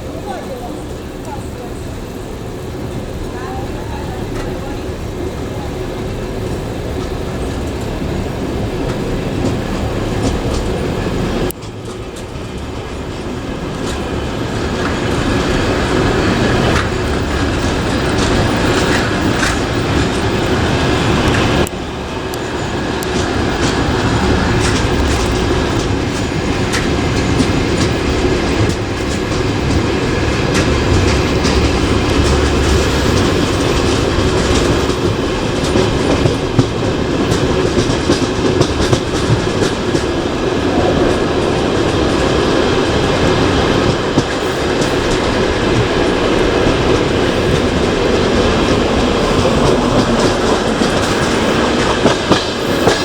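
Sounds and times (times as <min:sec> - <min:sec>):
train wheels clattering: 0:00.0 - 0:53.0.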